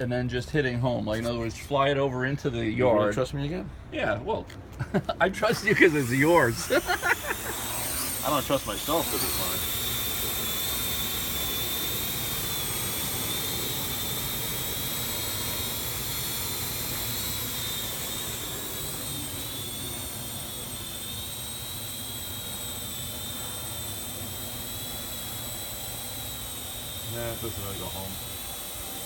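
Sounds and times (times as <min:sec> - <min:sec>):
drone propellers whining: 0:05.4 - 0:29.0.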